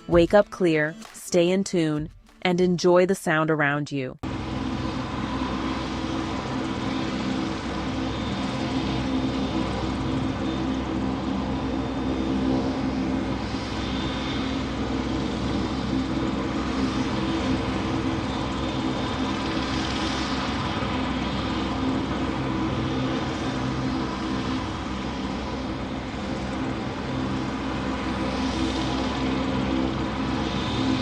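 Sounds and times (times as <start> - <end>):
engine droning: 4.2 - 31.0.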